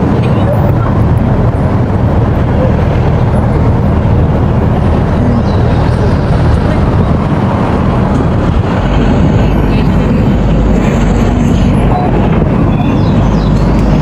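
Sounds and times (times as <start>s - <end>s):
excavator diesel engine rumbling: 0.0s - 14.0s.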